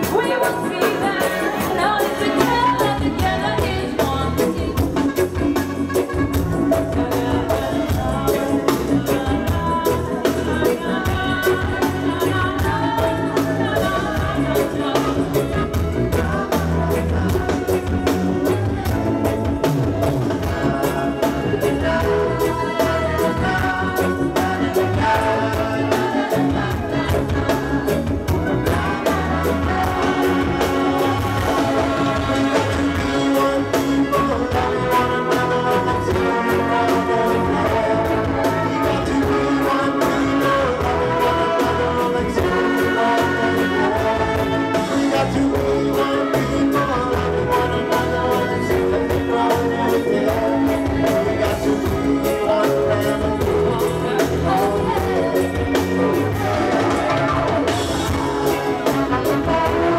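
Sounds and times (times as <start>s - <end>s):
accordion: 0.0s - 59.9s
live band playing: 0.0s - 59.9s
people singing: 0.0s - 59.9s
trumpet: 0.0s - 59.9s.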